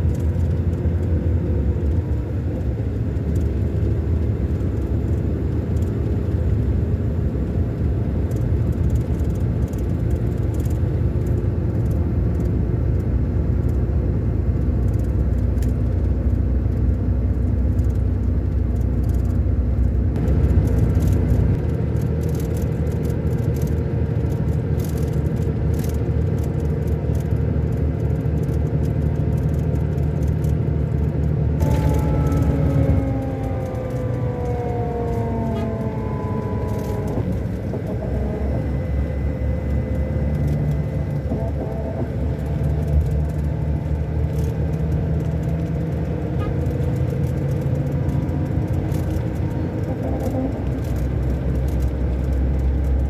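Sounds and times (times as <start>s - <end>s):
coach diesel engine running: 0.0s - 53.0s
light rattling clicks: 0.0s - 53.0s.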